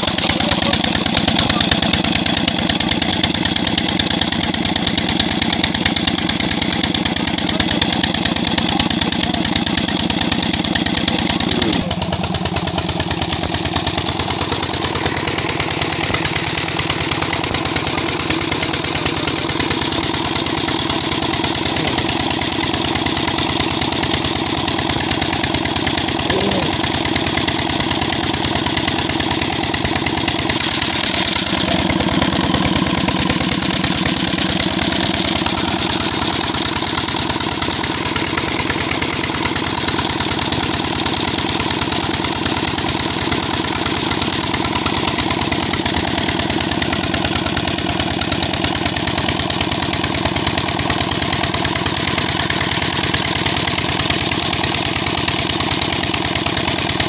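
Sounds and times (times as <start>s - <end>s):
diesel engine running: 0.0s - 57.0s
water pump running: 0.0s - 57.0s.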